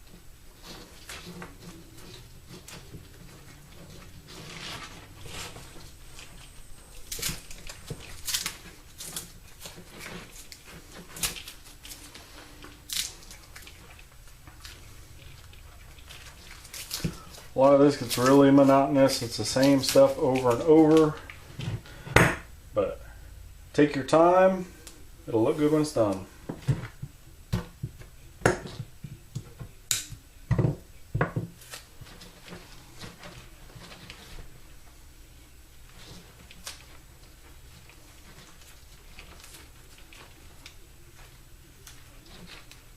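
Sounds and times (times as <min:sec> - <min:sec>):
handling noise: 0:00.0 - 0:42.9
wires rubbing and rustling: 0:00.0 - 0:42.9.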